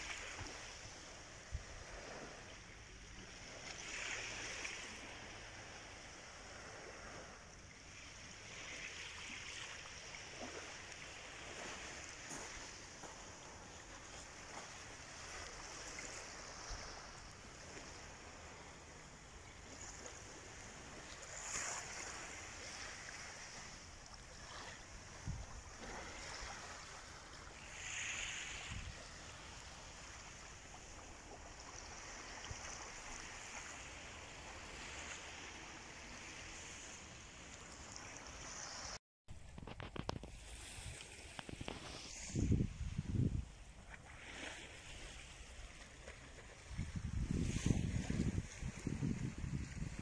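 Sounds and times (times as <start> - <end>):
small waves lapping on sand: 0.0 - 50.0.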